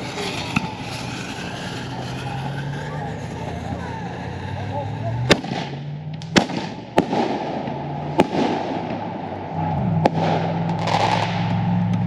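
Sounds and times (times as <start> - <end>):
firework bangs: 0.0 - 11.8
firework crackling: 0.0 - 12.0.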